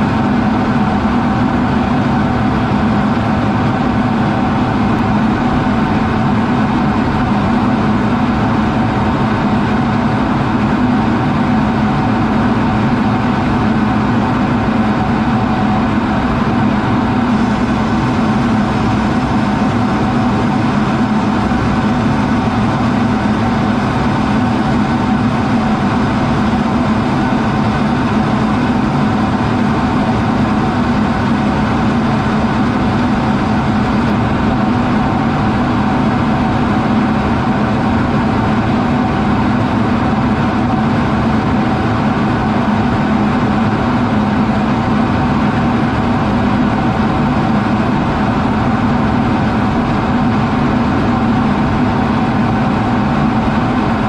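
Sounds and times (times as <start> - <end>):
jet cockpit engine drone: 0.0 - 54.0.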